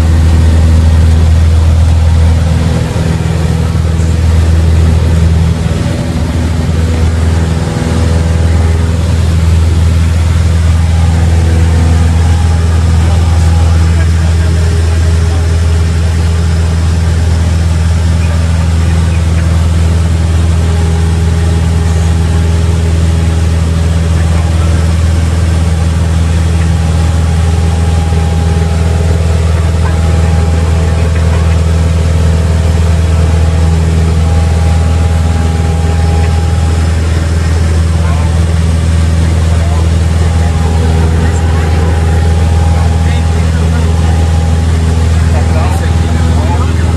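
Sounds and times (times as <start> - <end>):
plane engine drone in cabin: 0.0 - 46.9.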